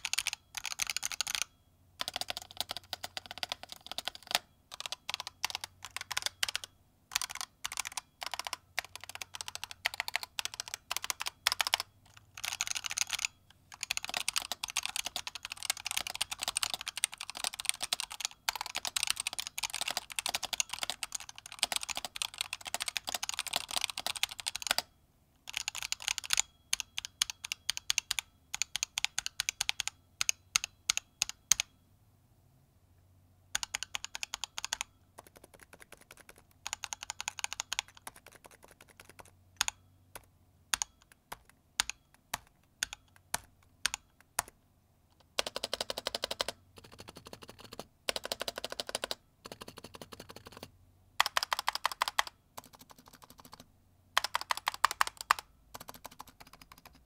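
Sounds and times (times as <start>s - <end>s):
typing on a keyboard: 0.0s - 31.7s, 33.5s - 44.6s, 45.2s - 57.0s.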